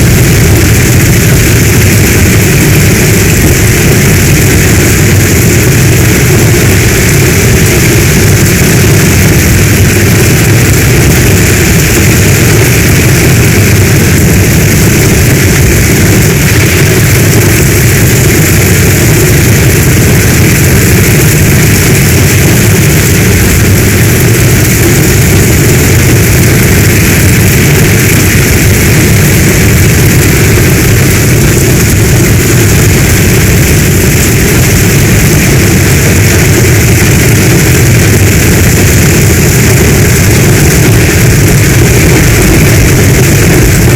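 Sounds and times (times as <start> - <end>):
deep continuous rumble: 0.0 - 43.9
heavy storm rain: 0.0 - 43.9.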